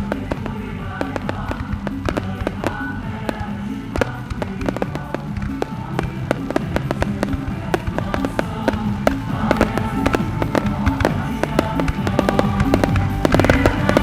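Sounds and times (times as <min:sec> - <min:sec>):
fireworks popping and crackling: 0:00.0 - 0:14.0
music with held notes: 0:00.0 - 0:14.0.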